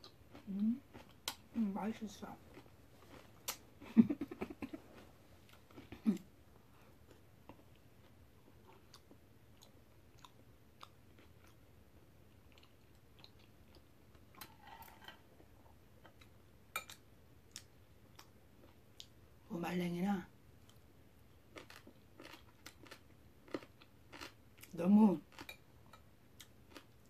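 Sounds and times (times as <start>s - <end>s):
soft chewing: 0.0s - 19.2s, 20.6s - 27.0s.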